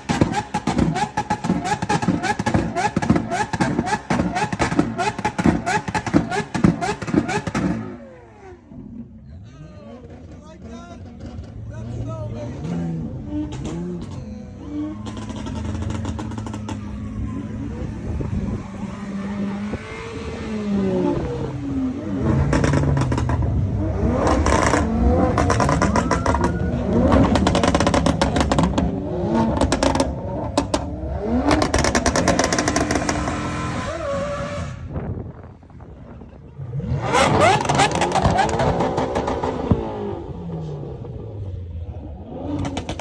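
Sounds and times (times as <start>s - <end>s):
cars driving past revving engines: 0.0s - 43.0s.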